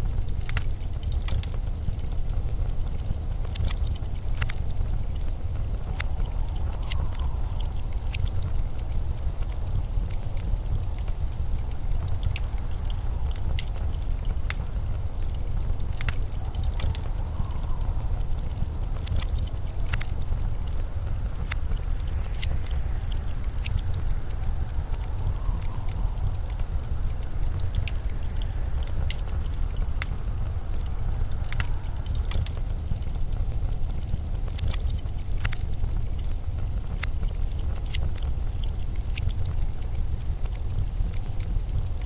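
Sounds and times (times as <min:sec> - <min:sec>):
small crackles and ticks: 0:00.0 - 0:42.0
storm wind rumbling: 0:00.0 - 0:42.0.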